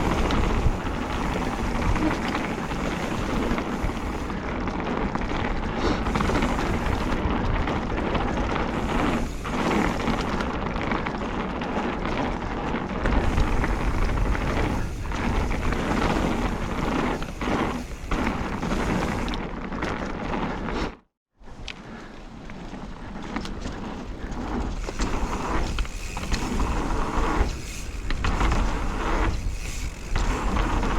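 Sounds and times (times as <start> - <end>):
wind buffeting camera: 0.0 - 20.8, 21.4 - 30.9
bike tyres crunching over dirt: 0.0 - 30.9.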